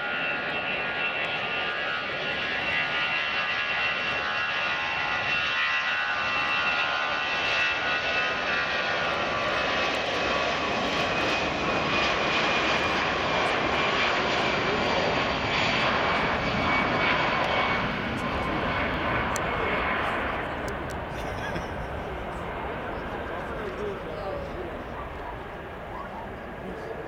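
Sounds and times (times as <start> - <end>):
jet engines at takeoff power: 0.0 - 27.0.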